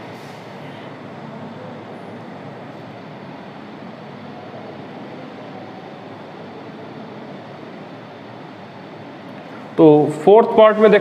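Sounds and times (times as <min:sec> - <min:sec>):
steady recording hiss: 0:00.0 - 0:11.0.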